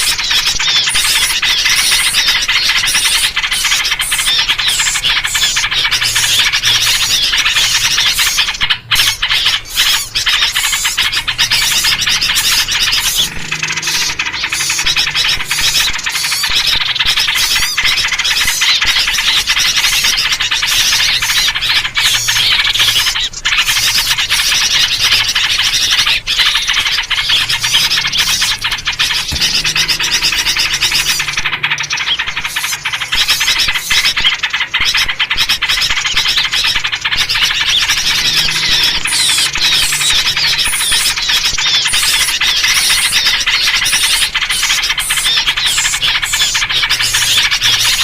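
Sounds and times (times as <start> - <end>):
bulbul calls: 0.0 - 48.0
small birds chattering and scolding: 0.0 - 48.0.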